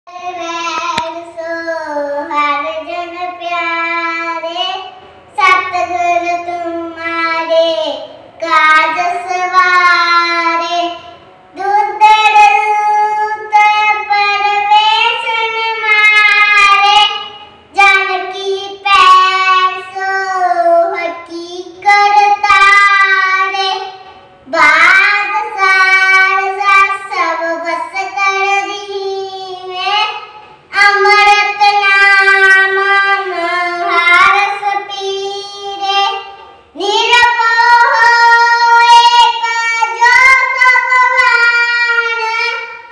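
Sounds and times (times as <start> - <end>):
girl singing a hymn: 0.1 - 42.9.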